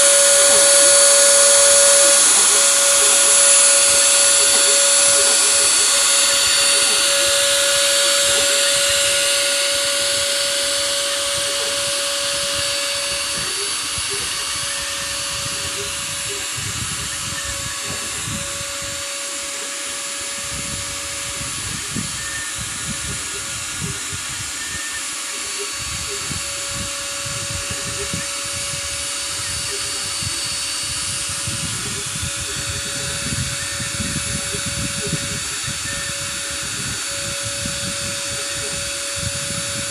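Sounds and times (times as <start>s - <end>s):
cnc spindle motor hiss: 0.0s - 39.9s
hum-like tone: 0.0s - 39.9s.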